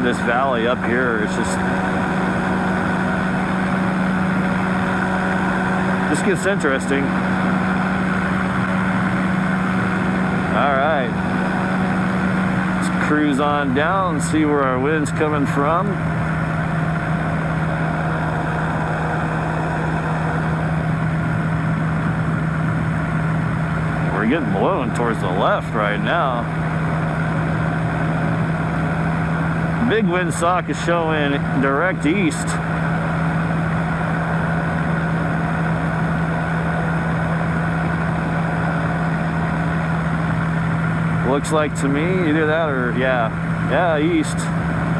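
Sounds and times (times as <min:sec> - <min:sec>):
engine and propeller running: 0:00.0 - 0:44.9.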